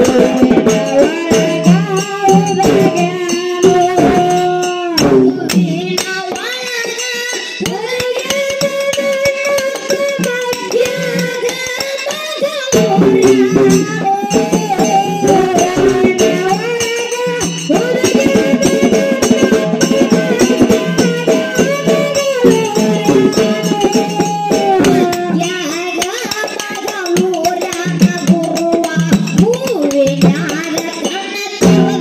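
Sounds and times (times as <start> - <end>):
barrel drum: 0.0 - 32.0
brass hand cymbals jingling: 0.0 - 32.0
woman singing: 0.0 - 32.0.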